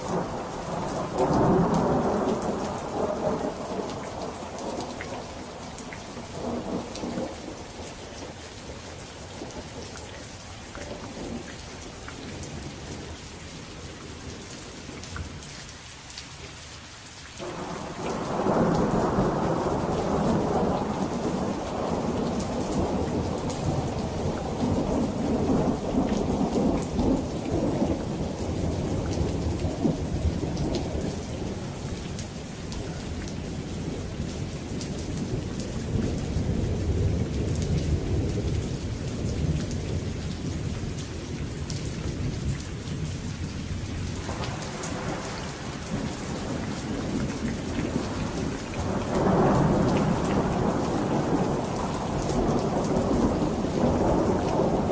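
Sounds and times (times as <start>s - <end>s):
rolling thunder: 0.0s - 8.3s, 17.4s - 54.9s
rain patter: 0.0s - 54.9s.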